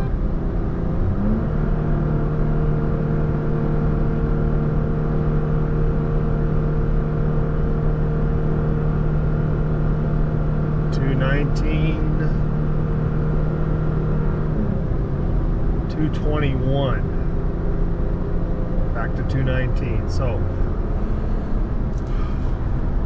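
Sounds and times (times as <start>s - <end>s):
engine droning: 0.0s - 23.0s
road and tyre noise: 0.0s - 23.0s.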